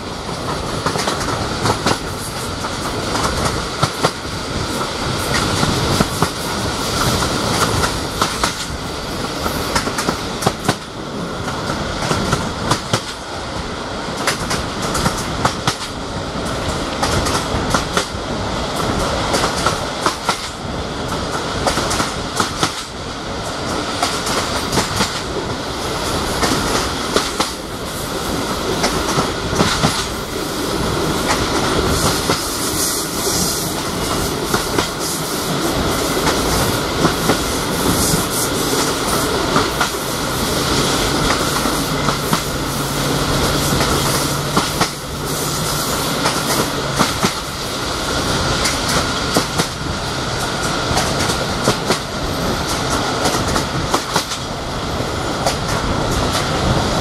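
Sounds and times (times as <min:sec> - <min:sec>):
wheels clicking over rail joints: 0:00.0 - 0:13.3, 0:14.1 - 0:54.6
train rumble: 0:00.0 - 0:57.0.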